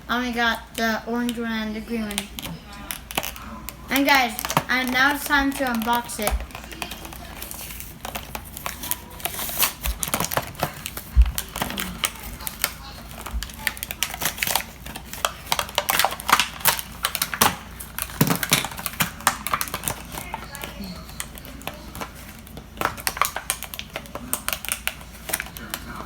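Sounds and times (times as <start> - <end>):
plastic packaging crackling: 0.5 - 26.0.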